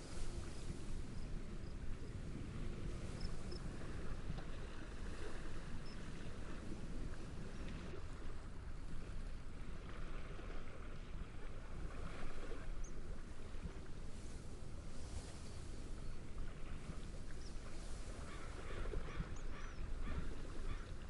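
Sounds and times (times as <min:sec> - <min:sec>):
waves lapping: 0:00.0 - 0:21.0
wind through reeds: 0:00.0 - 0:21.0.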